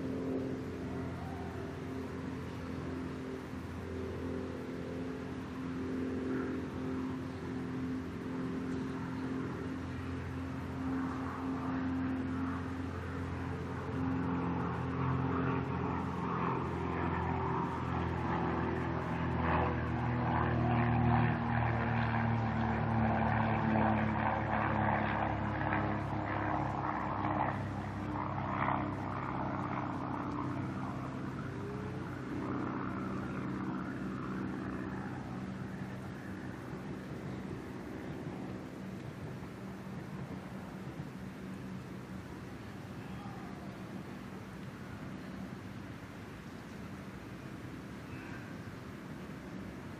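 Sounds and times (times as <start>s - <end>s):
propeller airplane flying overhead: 0.0s - 49.9s.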